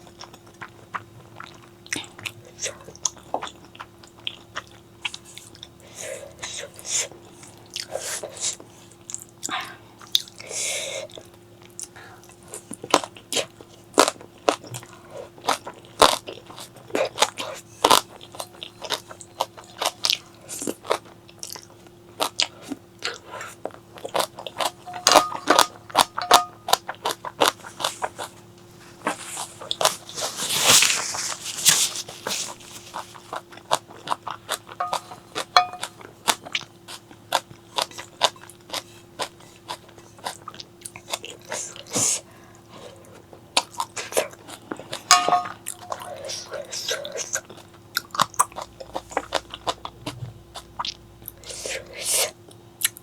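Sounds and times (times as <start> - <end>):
crunching and chewing food: 0.0 - 53.0.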